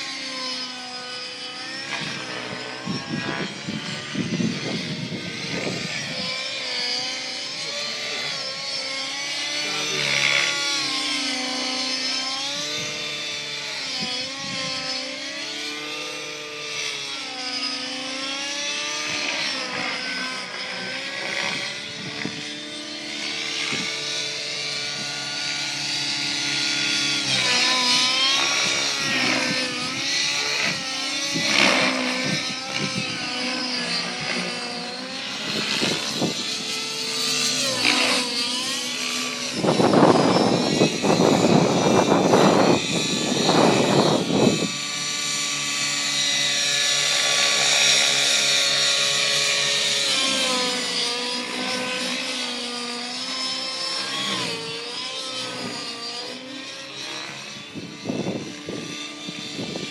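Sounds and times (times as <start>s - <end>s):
model helicopter engine whine: 0.0s - 59.9s.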